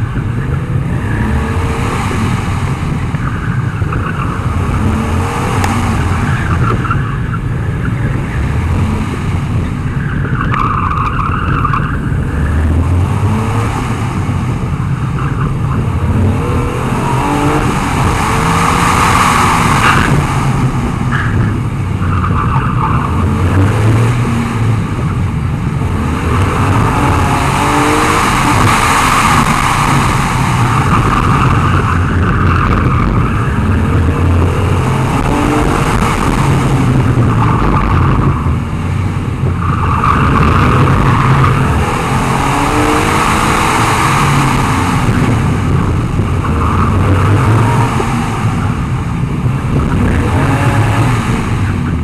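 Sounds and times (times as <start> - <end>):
car engine revving: 0.0 - 52.0
tyre and road rumble: 0.0 - 52.0
wind on microphone: 0.0 - 52.0.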